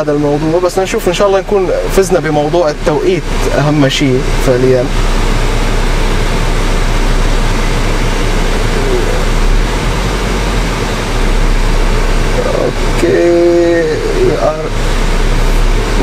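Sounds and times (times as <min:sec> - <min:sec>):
air-conditioning fan blowing: 0:00.0 - 0:16.0
car engine running: 0:00.0 - 0:16.0.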